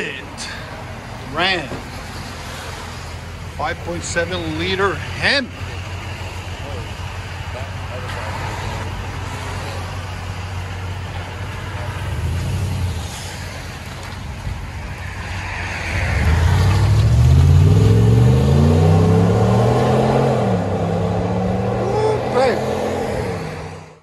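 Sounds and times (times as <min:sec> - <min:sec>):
truck engine idling and accelerating: 0:00.0 - 0:24.0.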